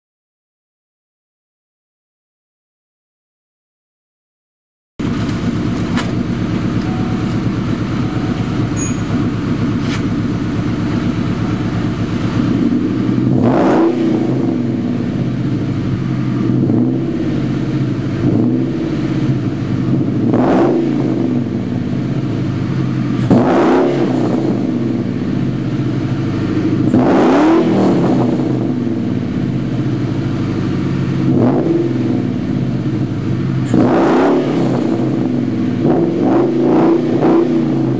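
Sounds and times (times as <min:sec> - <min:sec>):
car engine idling and revving: 0:05.0 - 0:37.9.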